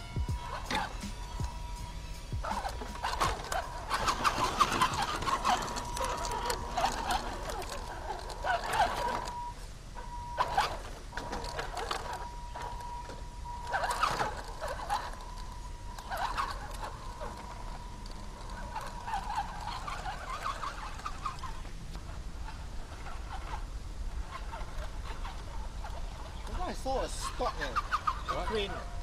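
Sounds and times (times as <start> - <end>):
electric motor whining: 0.0 - 29.0.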